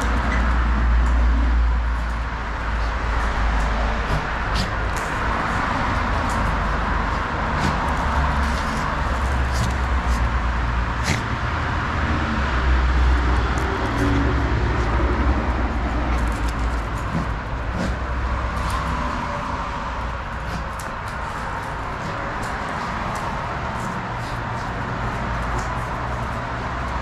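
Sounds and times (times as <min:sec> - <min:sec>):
outdoor rumble and hiss: 0:00.0 - 0:27.0.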